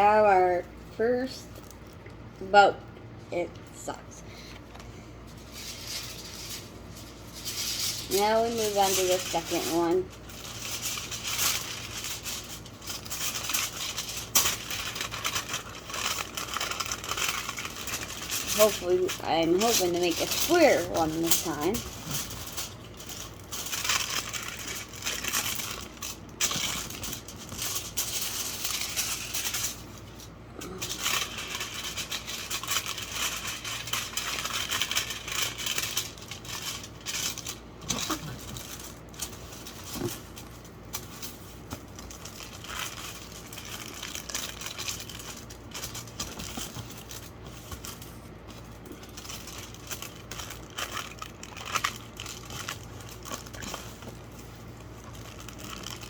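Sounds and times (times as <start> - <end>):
aluminum foil crinkling: 0.0 - 2.2, 4.4 - 56.0.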